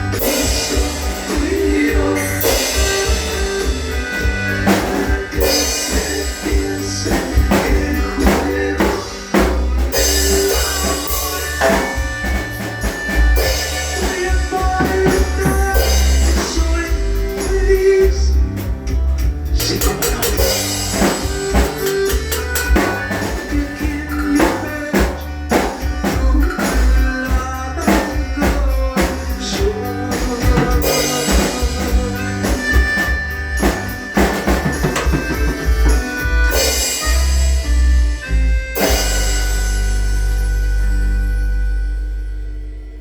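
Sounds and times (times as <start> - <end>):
drum kit playing: 0.0 - 43.0
recorded ballad music: 0.0 - 43.0.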